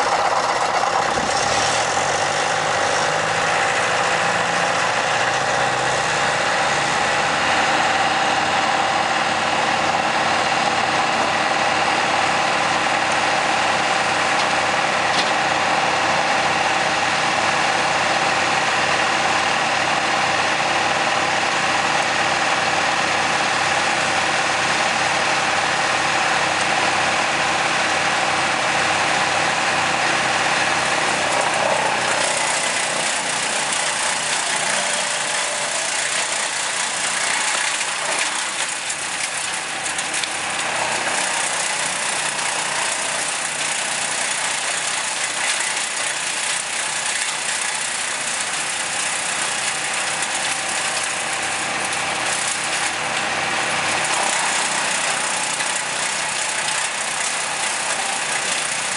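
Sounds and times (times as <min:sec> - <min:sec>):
wood chipper humming: 0:00.0 - 0:58.9.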